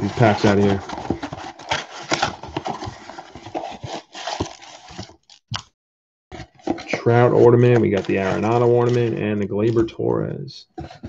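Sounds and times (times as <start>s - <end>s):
cardboard and wrappers rustling: 0.0s - 5.4s, 6.3s - 10.0s, 10.7s - 11.0s.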